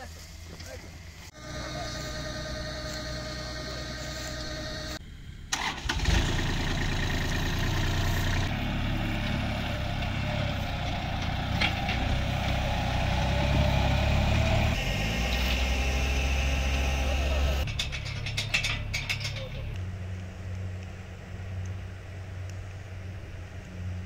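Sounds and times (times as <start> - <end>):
tractor diesel engine running: 0.1 - 24.0.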